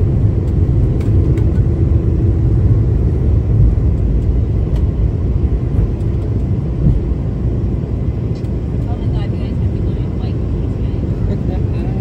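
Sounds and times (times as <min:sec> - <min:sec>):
airflow over fuselage: 0:00.0 - 0:12.0
jet engines rumbling: 0:00.0 - 0:12.0.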